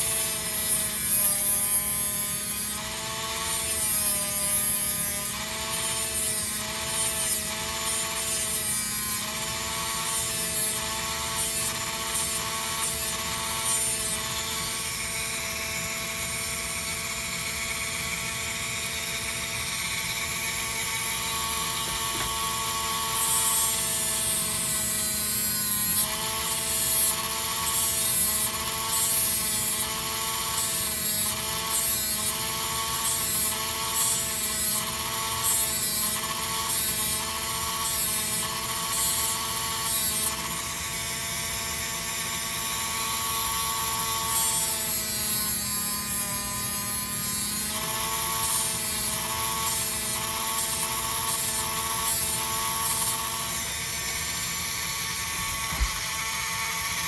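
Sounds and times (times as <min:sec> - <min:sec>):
disc grinding wood: 0:00.0 - 0:15.4, 0:16.0 - 0:40.9, 0:42.4 - 0:57.0
rotary tool whine: 0:00.0 - 0:57.0.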